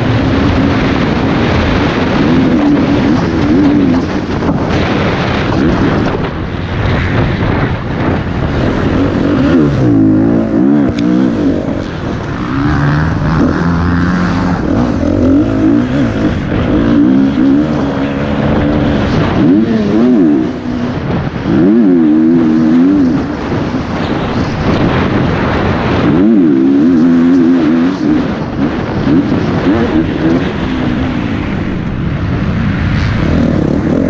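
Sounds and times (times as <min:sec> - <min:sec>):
motocross bike engine revving: 0:00.0 - 0:32.0, 0:32.7 - 0:34.0
wind on microphone: 0:00.0 - 0:34.0.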